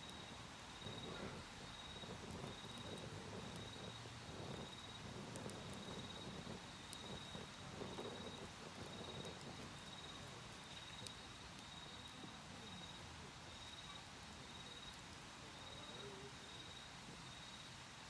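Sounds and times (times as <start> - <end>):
crickets trilling: 0.0 - 17.8
wood fire crackles: 0.0 - 18.0.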